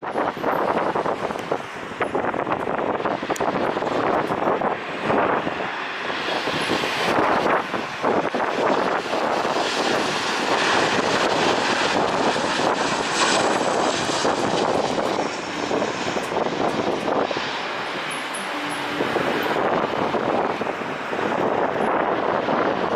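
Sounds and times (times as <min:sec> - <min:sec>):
jet engines rushing: 0:00.0 - 0:22.9.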